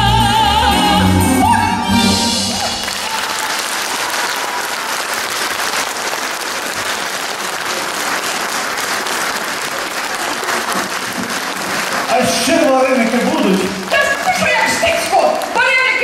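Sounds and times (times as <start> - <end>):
audience applauding: 2.1 - 16.0.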